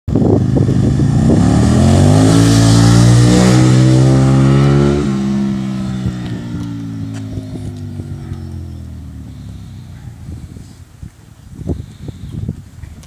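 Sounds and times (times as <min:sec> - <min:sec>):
motorcycle engine accelerating: 0:00.1 - 0:10.7.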